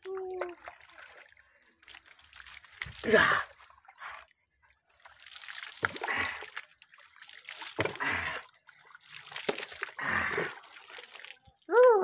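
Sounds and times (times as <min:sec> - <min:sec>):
water poured splashing on concrete: 0:00.2 - 0:03.9, 0:05.0 - 0:11.7.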